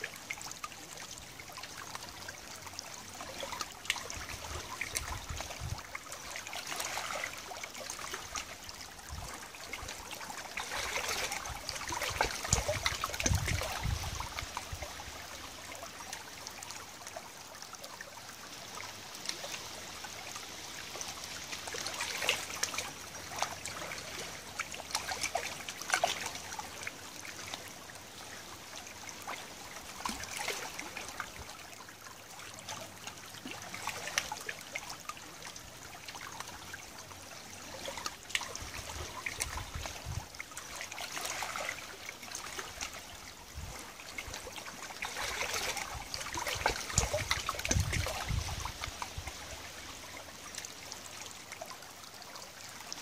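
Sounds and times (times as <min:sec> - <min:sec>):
water lapping over pebbles: 0:00.0 - 0:53.0.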